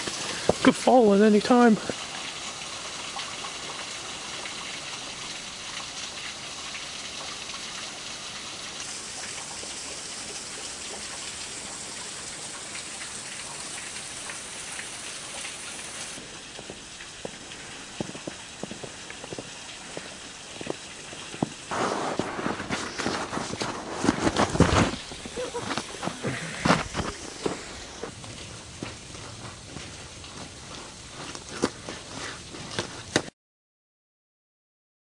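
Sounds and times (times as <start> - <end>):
water trickling and splashing: 0.0 - 33.4.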